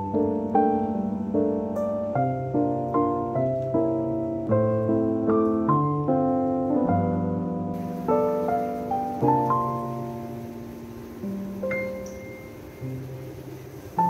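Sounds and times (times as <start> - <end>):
faint hiss: 0.0 - 14.0
piano chords: 0.0 - 14.0.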